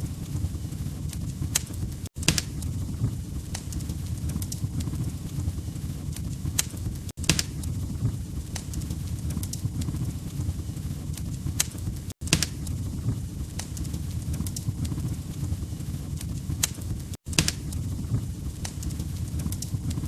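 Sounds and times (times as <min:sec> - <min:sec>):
wood fire crackling in fireplace: 0:00.0 - 0:20.0.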